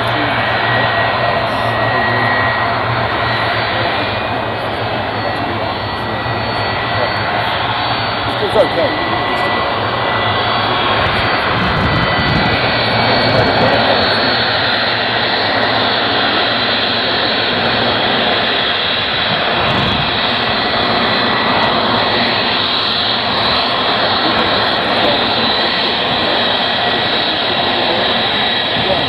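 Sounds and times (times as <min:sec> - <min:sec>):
jet engines rumbling with whine: 0:00.0 - 0:29.0.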